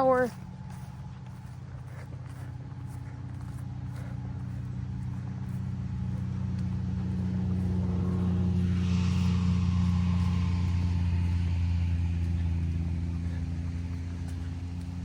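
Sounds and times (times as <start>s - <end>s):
faint footsteps on trail: 0.0s - 15.0s
motor engine humming: 0.0s - 15.0s.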